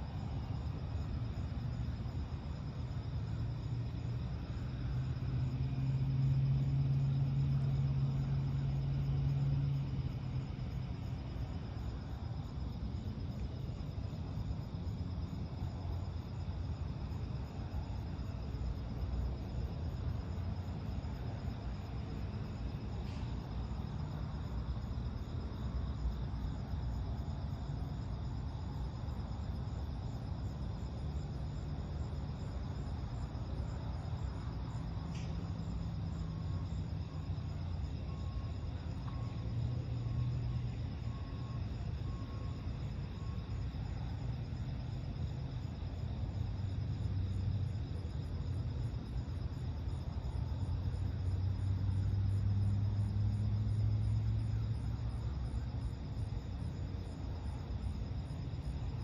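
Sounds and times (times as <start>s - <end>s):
crickets chirping: 0.0s - 59.0s
distant road traffic rumble: 0.0s - 59.0s.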